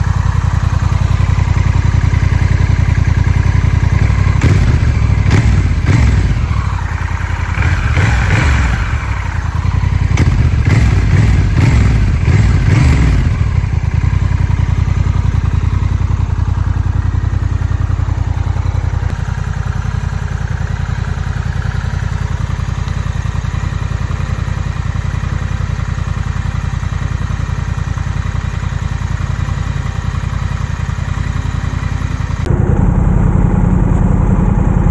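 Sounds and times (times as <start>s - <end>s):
engine clattering: 0.0s - 34.9s
motorcycle engine revving and idling: 0.0s - 34.9s.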